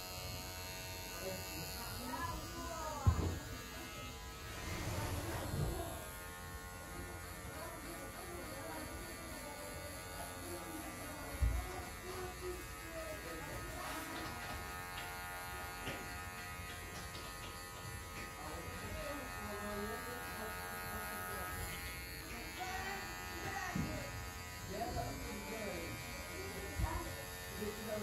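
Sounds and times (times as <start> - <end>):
electric hair clipper buzzing: 0.0 - 28.0.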